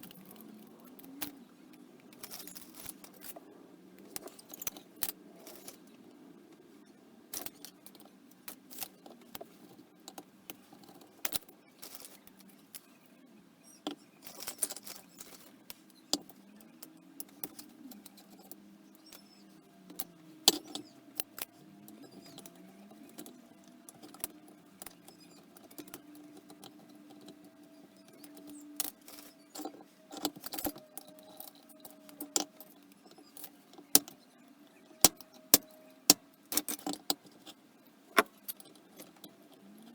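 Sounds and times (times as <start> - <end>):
metallic clicks of small parts: 0.0 - 3.4, 4.0 - 6.1, 7.3 - 13.0, 13.6 - 39.9
faint steady hum: 0.0 - 39.9.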